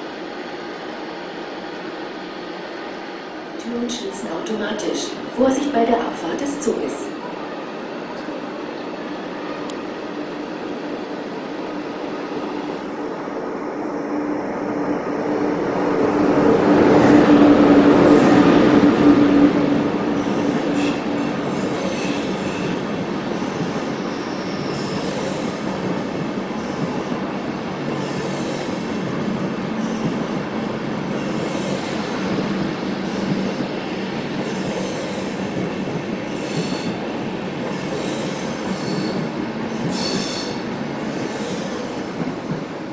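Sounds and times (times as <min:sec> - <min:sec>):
train pulling into platform: 0:00.0 - 0:42.9.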